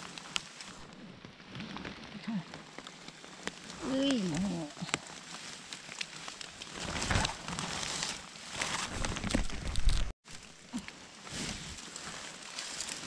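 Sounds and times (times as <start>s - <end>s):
dead leaves and twigs crackling: 0.0s - 13.0s
plastic raincoat rustling: 0.0s - 13.0s.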